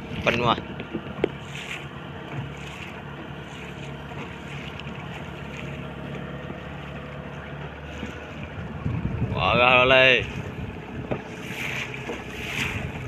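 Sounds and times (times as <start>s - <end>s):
small boat engine running: 0.0s - 13.0s
wind and water hiss: 0.0s - 13.0s.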